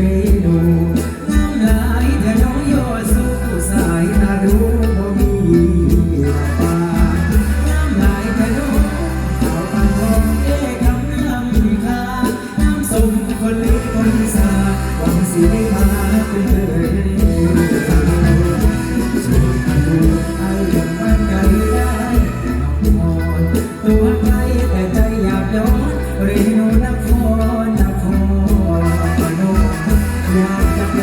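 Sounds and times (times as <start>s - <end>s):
live band music with heavy bass: 0.0s - 31.0s
person singing: 0.0s - 31.0s.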